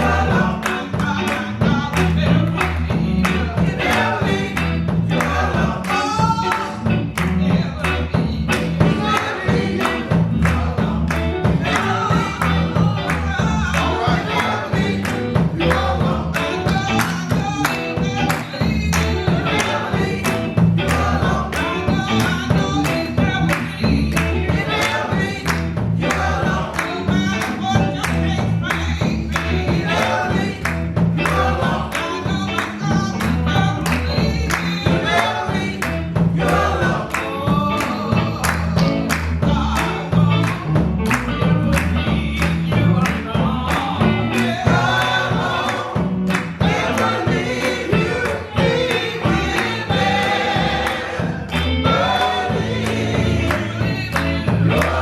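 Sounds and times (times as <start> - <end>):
band accompaniment with steady beat: 0.0 - 55.0
gospel choir singing: 0.0 - 55.0.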